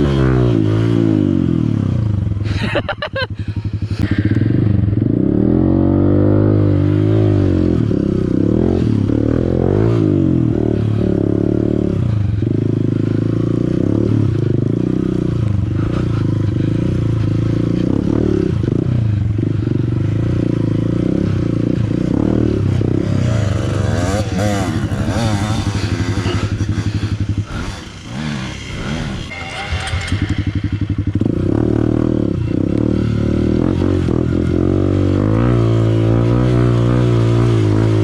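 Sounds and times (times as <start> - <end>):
dirt bike engine revving: 0.0 - 2.8, 3.8 - 38.0.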